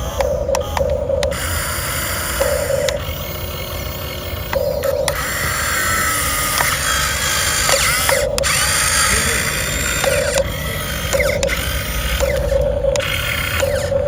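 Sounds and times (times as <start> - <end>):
electric gear motors whirring: 0.0 - 14.0
intermittent buzz: 0.0 - 14.0
sharp clicks: 0.0 - 14.0.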